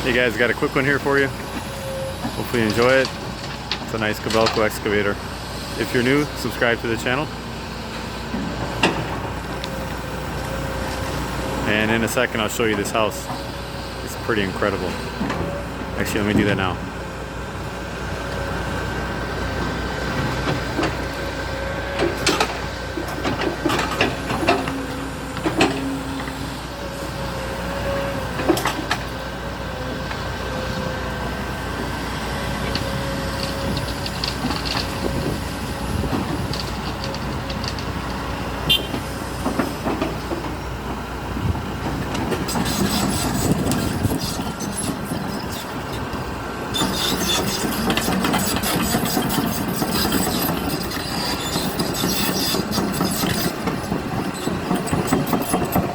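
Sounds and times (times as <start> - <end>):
excavator running with whine: 0.0 - 55.9.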